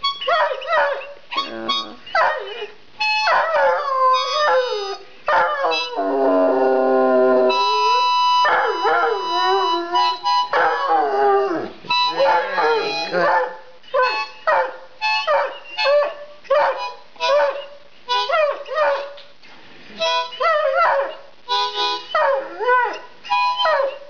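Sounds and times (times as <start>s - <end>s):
dog howling and yipping: 0.2s - 19.2s, 20.0s - 21.3s, 22.1s - 24.0s.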